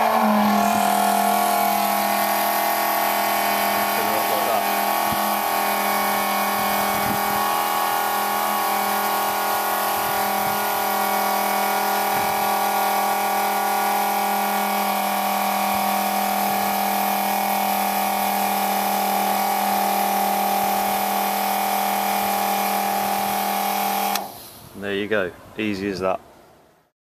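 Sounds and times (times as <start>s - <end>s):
electric pump humming and whining: 0.0s - 24.8s.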